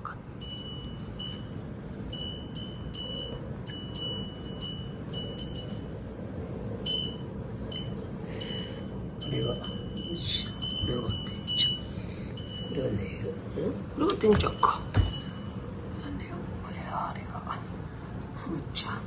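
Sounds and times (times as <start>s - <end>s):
low background noise: 0.0s - 19.0s
wind chime tinkling: 0.3s - 15.8s.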